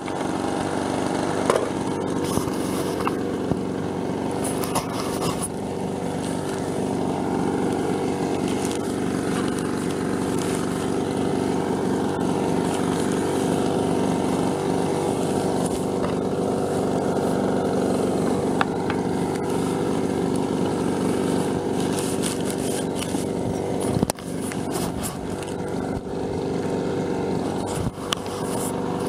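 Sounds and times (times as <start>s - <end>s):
leaf blower running: 0.0s - 29.0s.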